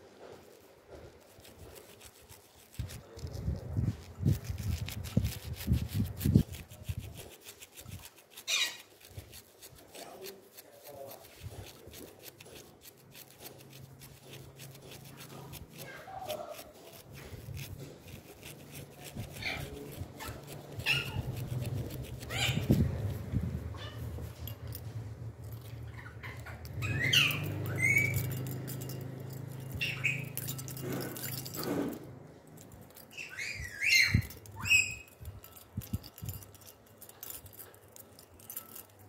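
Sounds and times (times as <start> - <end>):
toothbrush scrubbing: 0.0 - 39.0.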